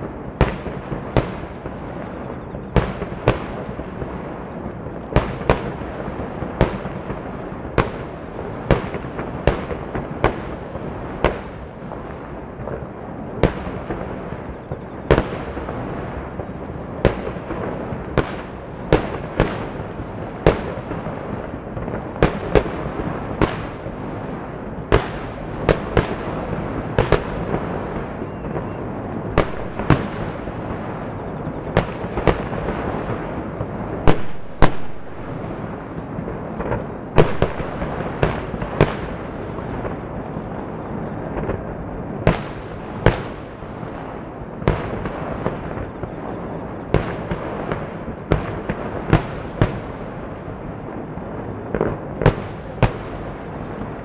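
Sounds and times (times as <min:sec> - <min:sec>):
fireworks booming: 0:00.0 - 0:54.0
rumble of fireworks bursts: 0:00.0 - 0:54.0.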